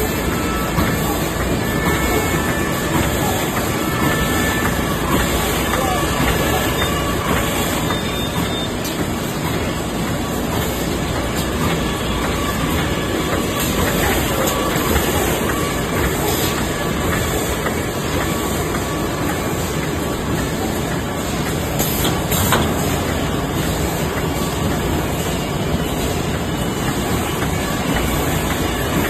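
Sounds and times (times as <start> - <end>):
bag-making machine clatter and hiss: 0.0 - 29.0.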